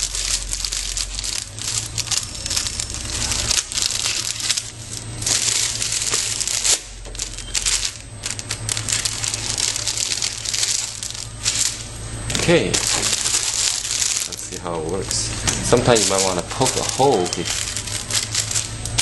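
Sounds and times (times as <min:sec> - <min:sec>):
low steady hum: 0:00.0 - 0:19.0
plastic film crinkling: 0:00.0 - 0:19.0.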